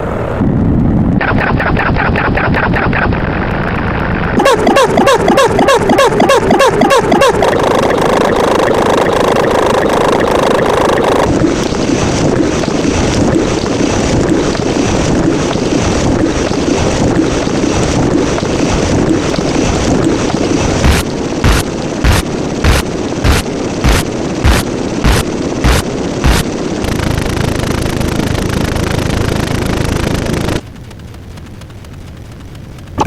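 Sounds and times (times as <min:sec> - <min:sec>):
noisy rushing sound: 0:00.0 - 0:29.8
rapid falling-pitch pulses: 0:01.2 - 0:03.2, 0:04.4 - 0:30.6.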